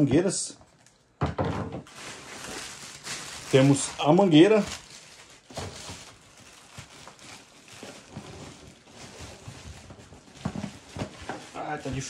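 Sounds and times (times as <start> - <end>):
plastic and cardboard rustling: 0.6 - 12.0.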